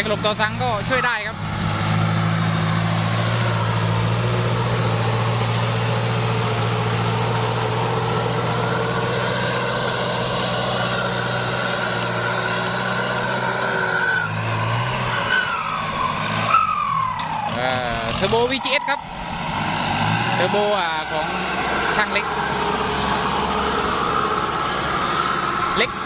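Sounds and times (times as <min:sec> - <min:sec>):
tractor diesel engine running: 0:00.0 - 0:26.0
turbocharger whine: 0:00.0 - 0:26.0.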